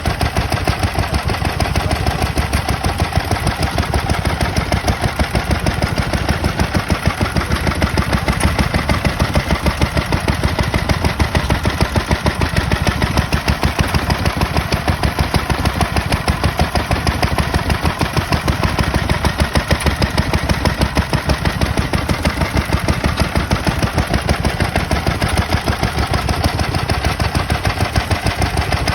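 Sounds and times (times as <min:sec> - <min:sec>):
stationary engine running: 0:00.0 - 0:28.9.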